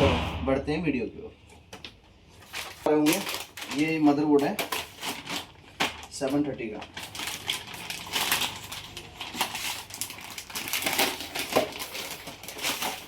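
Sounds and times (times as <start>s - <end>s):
rustling and crinkling: 1.6s - 13.0s.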